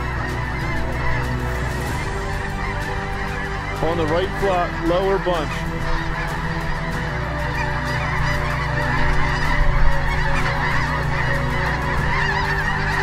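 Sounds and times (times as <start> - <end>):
flock of geese honking: 0.0 - 13.0.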